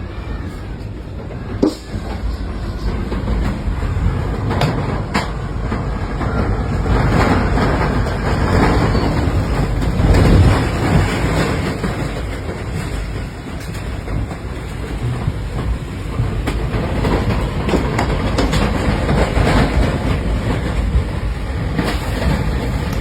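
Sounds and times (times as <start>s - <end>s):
tornado wind rumbling: 0.0s - 23.0s.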